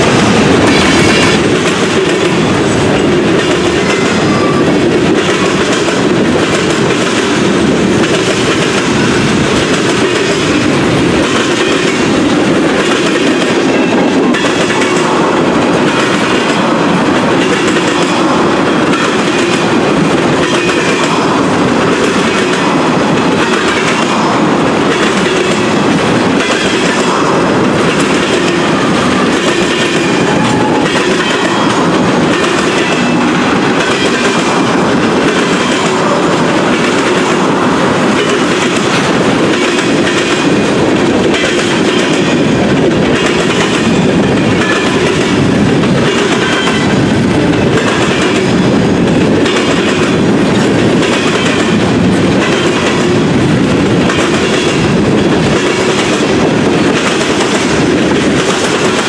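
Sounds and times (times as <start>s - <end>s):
freight train rolling past: 0.0s - 59.0s
steel wheels clattering on rails: 0.0s - 59.0s.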